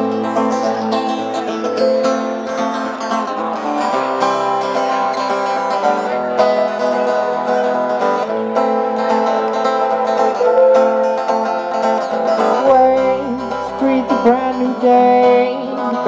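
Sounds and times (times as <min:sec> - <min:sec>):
bass: 0:00.0 - 0:16.0
strummed acoustic guitar: 0:00.0 - 0:16.0.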